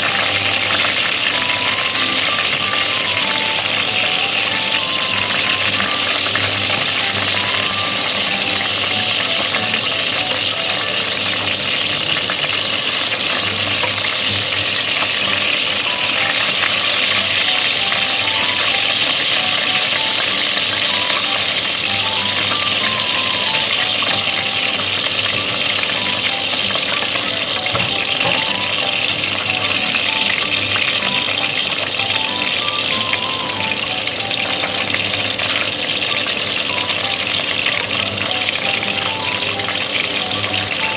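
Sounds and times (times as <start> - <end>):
chicken sizzling in hot oil: 0.0 - 40.9
light background music: 0.0 - 40.9.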